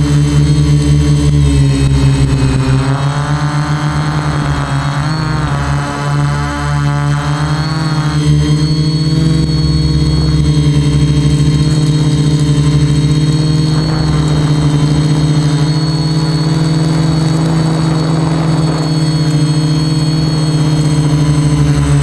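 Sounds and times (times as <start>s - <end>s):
quadcopter motors humming: 0.0s - 22.0s.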